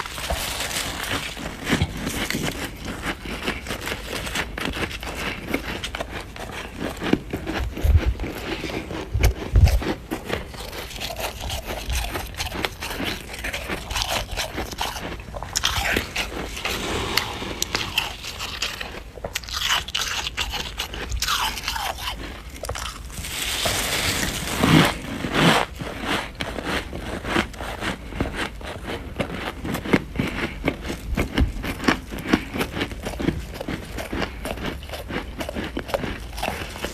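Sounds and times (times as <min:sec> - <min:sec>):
crunching and chewing frost: 0:00.0 - 0:36.9.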